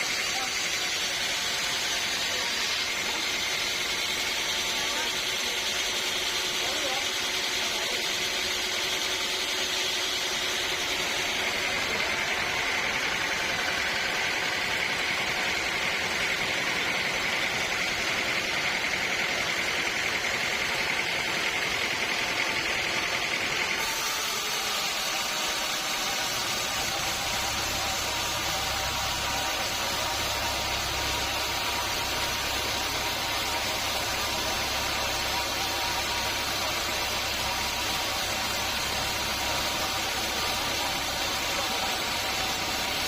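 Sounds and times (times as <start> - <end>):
high machine whine: 0.0 - 43.0
sawmill machinery running: 0.0 - 43.0.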